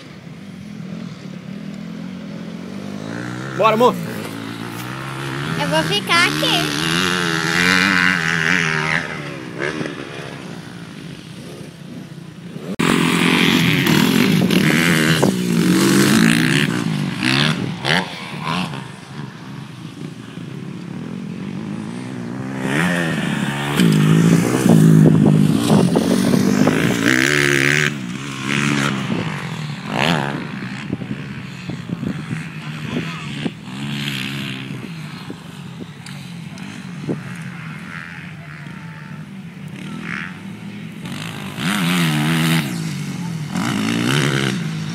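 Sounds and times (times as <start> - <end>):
motocross bikes revving: 0.0 - 44.9.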